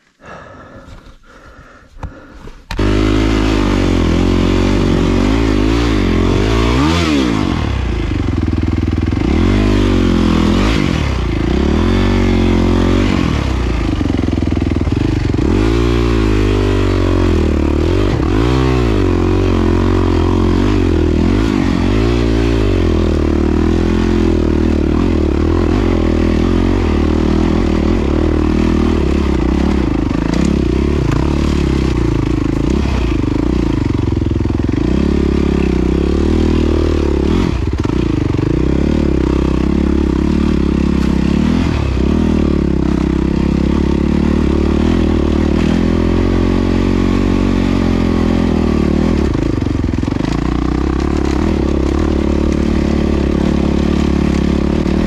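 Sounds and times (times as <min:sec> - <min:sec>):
motorcycle engine revving: 0:02.1 - 0:55.0.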